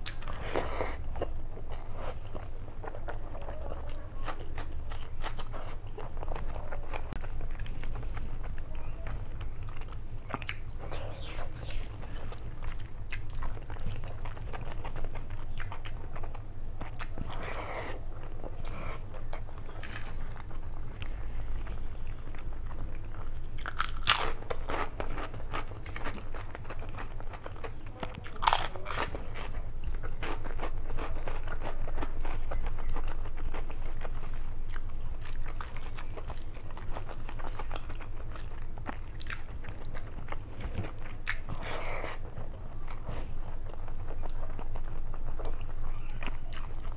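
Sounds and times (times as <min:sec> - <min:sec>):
chewing and wet mouth sounds: 0:00.0 - 0:46.9
steady low hum: 0:00.0 - 0:46.9.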